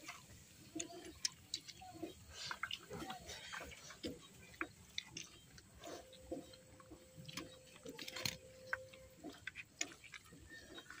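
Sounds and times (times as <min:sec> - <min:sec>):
chewing and lip smacks: 0:00.1 - 0:11.0.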